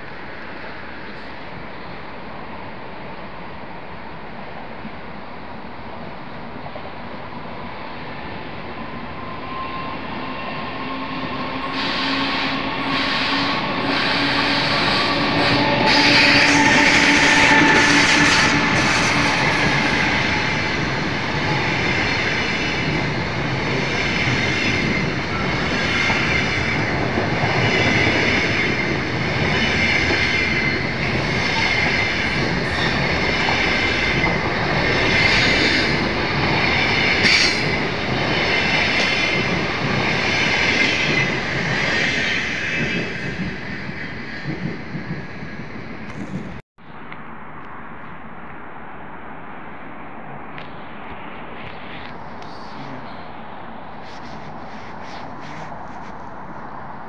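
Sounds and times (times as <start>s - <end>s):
train wheels rumbling on rail: 0.0s - 46.6s.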